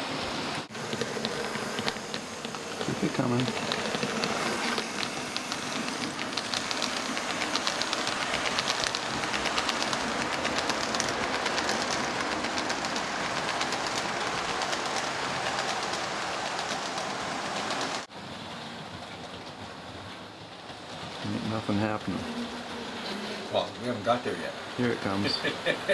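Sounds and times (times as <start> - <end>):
model train rattling over track: 0.4 - 25.9.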